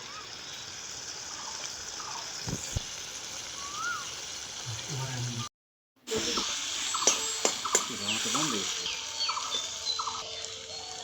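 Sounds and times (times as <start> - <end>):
pot sizzling hiss: 0.0 - 11.0.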